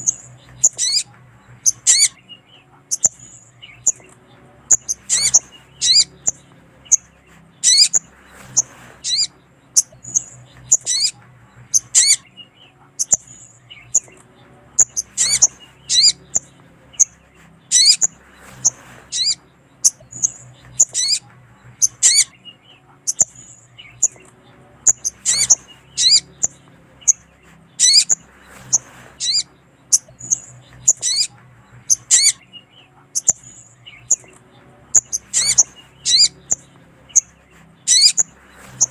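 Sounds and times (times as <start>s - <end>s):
bird chirps and chatters: 0.0s - 38.9s.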